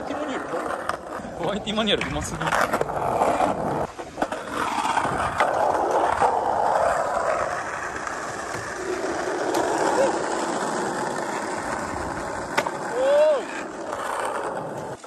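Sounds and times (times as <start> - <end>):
skateboard wheels rolling: 0.0 - 15.0.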